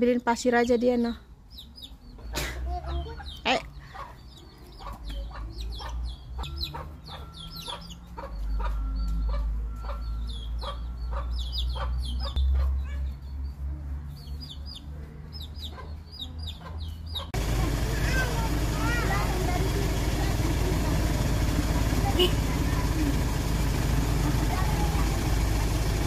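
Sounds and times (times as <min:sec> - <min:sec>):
chickens calling: 0:01.5 - 0:13.3, 0:14.3 - 0:26.0.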